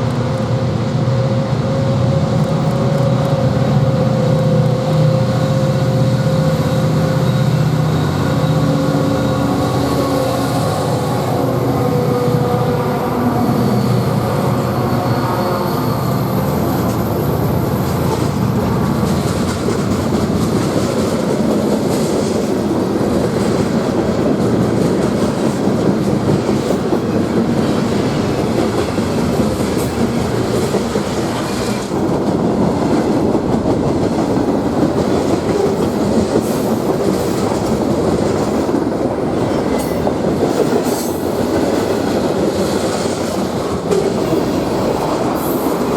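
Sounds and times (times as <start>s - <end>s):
diesel locomotive engine: 0.0s - 45.9s
train wheels rumbling on rails: 0.0s - 45.9s.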